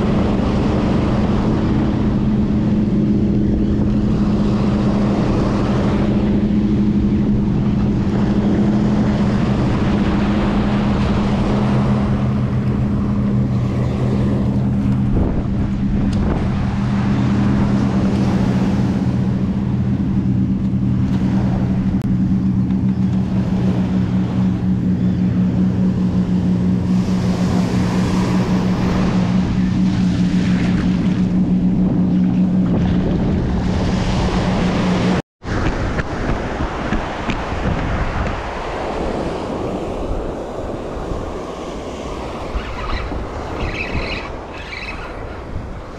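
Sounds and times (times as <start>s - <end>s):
low engine drone: 0.0s - 45.9s
surf washing: 0.0s - 45.9s
wind on microphone: 0.0s - 45.9s.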